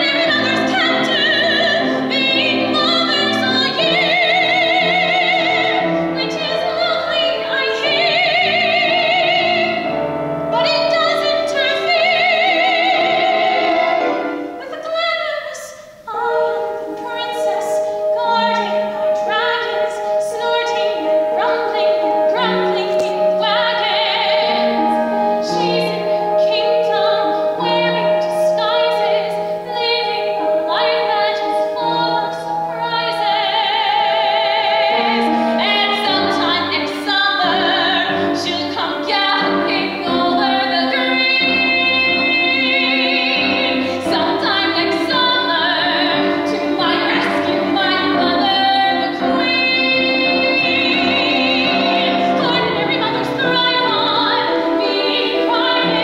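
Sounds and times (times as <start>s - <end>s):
grand piano: 0.0s - 56.0s
woman singing with vibrato: 0.0s - 56.0s.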